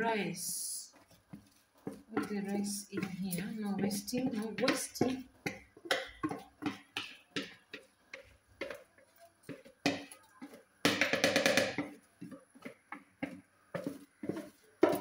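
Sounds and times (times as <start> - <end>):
wooden spoon tapping plastic bowl: 2.2 - 8.9, 9.5 - 15.0.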